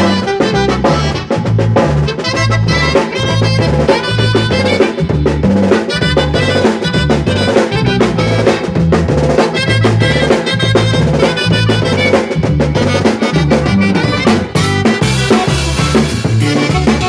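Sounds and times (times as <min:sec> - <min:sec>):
latin band playing: 0:00.0 - 0:17.0.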